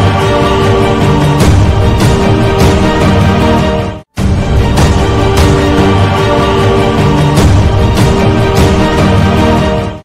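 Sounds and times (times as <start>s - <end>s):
theme music with pulsing bass beat: 0.0s - 10.0s.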